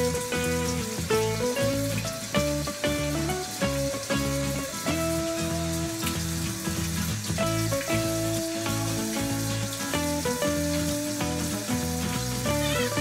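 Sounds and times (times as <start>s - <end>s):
background music: 0.0s - 13.0s
tap running water: 0.0s - 13.0s.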